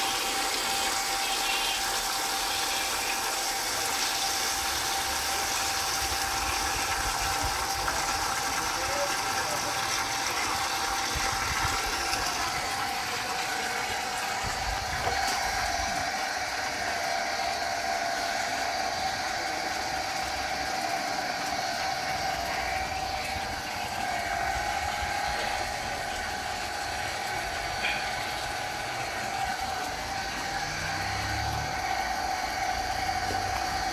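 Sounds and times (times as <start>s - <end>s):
water gushing from pipe: 0.0s - 33.9s
mid-pitched hum: 5.4s - 33.9s.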